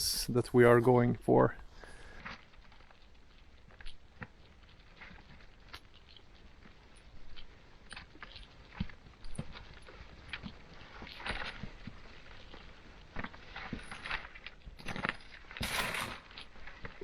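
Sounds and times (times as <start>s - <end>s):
footsteps on slope: 1.9s - 17.0s.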